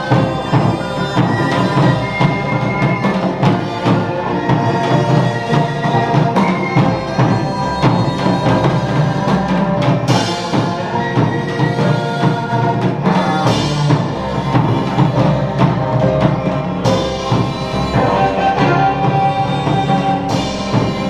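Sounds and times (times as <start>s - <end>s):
background music with percussive beat: 0.0s - 21.0s.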